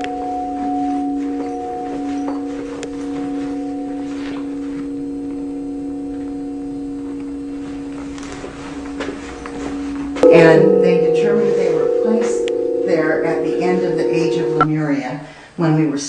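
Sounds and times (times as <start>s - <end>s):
crystal singing bowl ringing: 0.0s - 14.7s.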